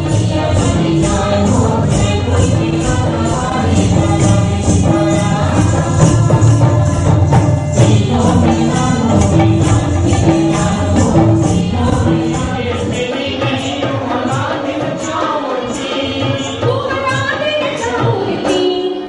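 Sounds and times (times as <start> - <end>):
metallic jingle beat: 0.0 - 16.6
drums: 0.0 - 19.0
group singing: 0.0 - 19.0.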